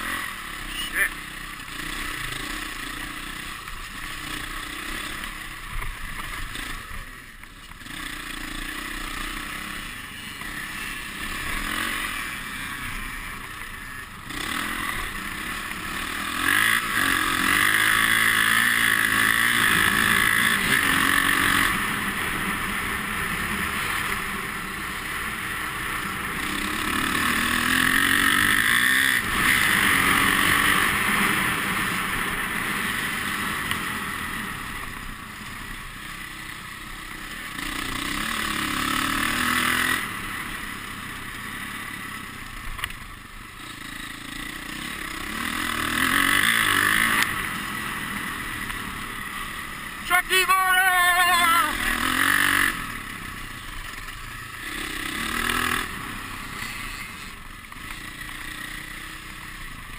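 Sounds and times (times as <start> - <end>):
dirt bike engine revving: 0.0 - 42.7, 43.5 - 59.9.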